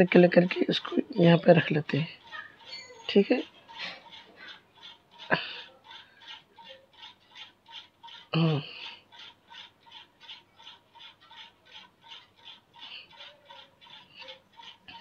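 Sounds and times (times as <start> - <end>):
soft regular ticking: 0.0 - 15.0.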